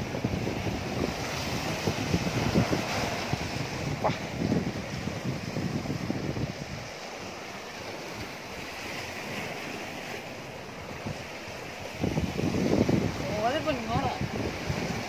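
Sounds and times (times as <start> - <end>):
waves breaking against rocks: 0.0 - 15.0
wind on microphone: 0.0 - 15.0.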